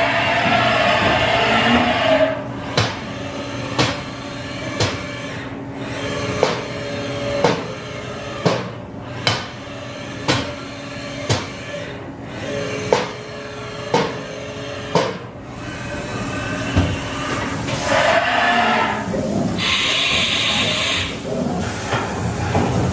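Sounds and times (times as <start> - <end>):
steady hum: 0.0 - 22.9.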